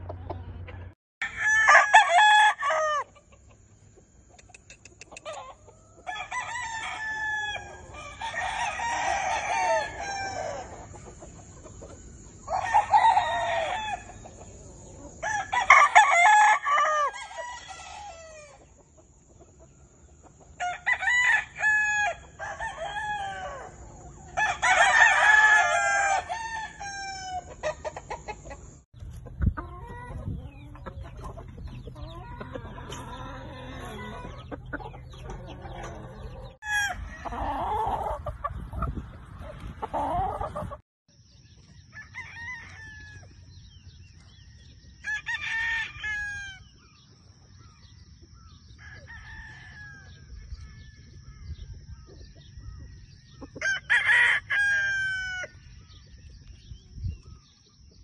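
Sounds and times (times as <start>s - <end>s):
roosters crowing: 1.2s - 3.6s, 5.1s - 28.8s, 29.5s - 38.6s, 39.4s - 40.8s, 41.7s - 47.0s, 48.5s - 51.7s, 52.8s - 56.1s.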